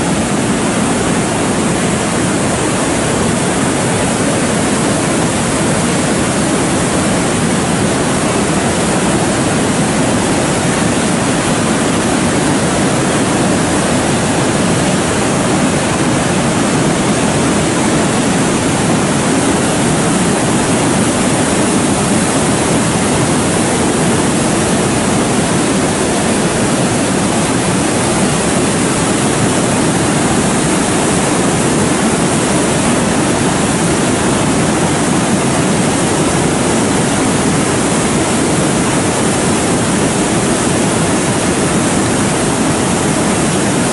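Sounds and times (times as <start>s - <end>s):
water rushing over rocks: 0.0s - 43.9s.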